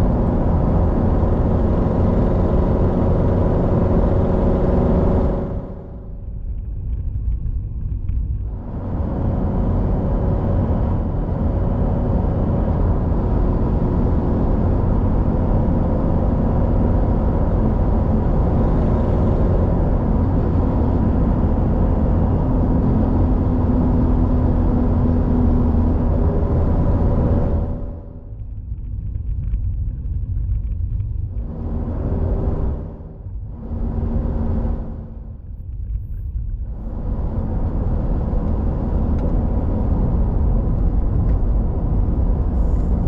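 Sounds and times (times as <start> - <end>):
car engine hum: 0.0 - 43.0
road rumble and tyre noise: 0.0 - 43.0.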